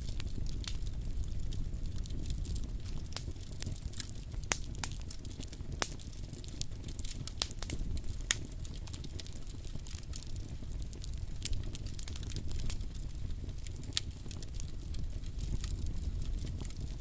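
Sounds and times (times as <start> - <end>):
campfire crackling and popping: 0.0 - 17.0
low steady rumble: 0.0 - 17.0.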